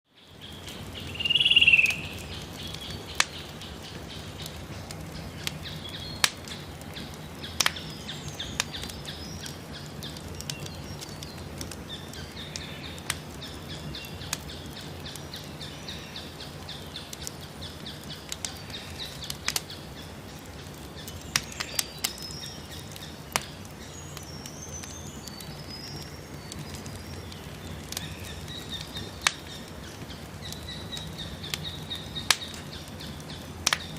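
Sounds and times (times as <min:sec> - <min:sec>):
birds chirping: 0:00.1 - 0:33.9
campfire crackling and popping: 0:00.1 - 0:33.9
low outdoor background: 0:00.1 - 0:33.9.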